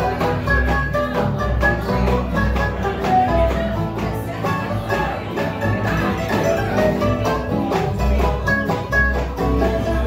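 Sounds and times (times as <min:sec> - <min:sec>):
mandolin picking fast notes: 0:00.0 - 0:10.0
strummed acoustic guitar: 0:00.0 - 0:10.0
upright bass line: 0:00.0 - 0:10.0.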